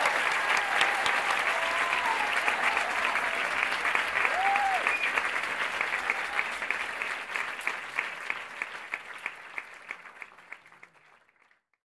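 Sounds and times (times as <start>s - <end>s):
audience applauding: 0.0s - 11.7s
close hand claps: 0.0s - 11.8s.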